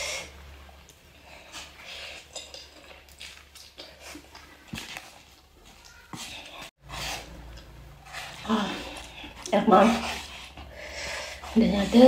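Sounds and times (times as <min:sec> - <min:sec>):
person slurping and chewing noodles: 0:00.0 - 0:12.0.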